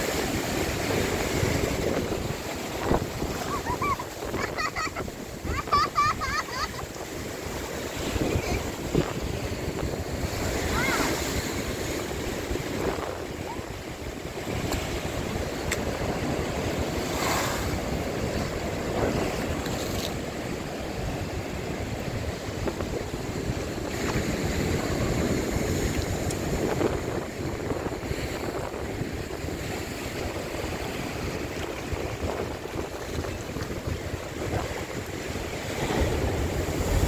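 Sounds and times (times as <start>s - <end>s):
surf washing over rocks: 0.0s - 37.0s.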